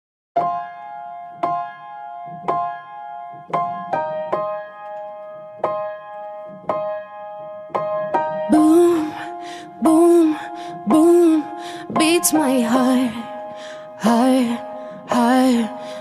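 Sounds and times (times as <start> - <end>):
slow piano chords: 0.4 - 16.0.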